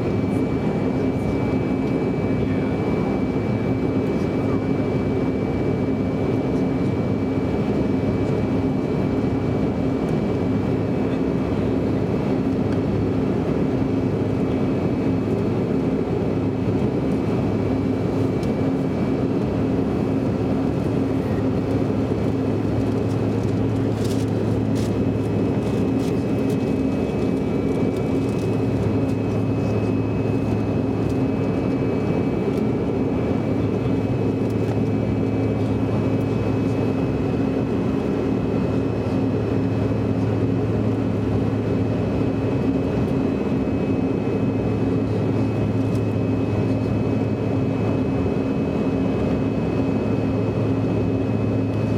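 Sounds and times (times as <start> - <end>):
jet engine and airflow rush: 0.0 - 51.9.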